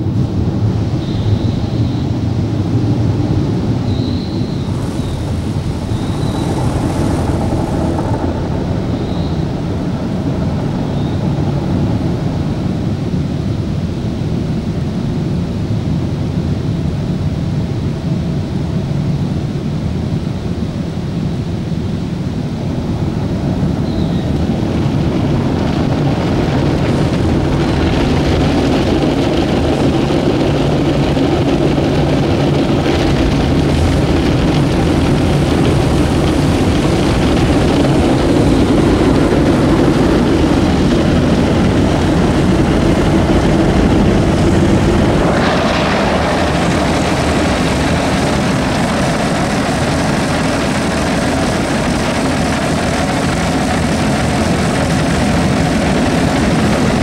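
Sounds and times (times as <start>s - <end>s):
machine and water drone: 0.0s - 57.0s.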